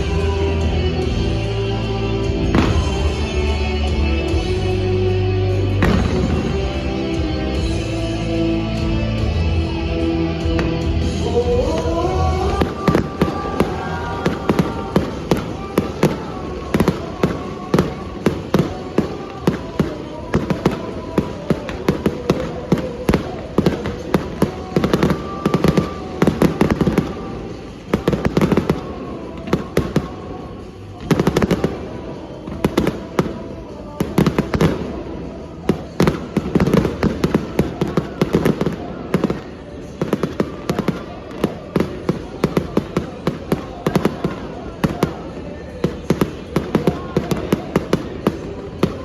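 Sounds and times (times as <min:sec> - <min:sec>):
fireworks bangs and crackles: 0:00.0 - 0:49.0
music: 0:00.0 - 0:49.0.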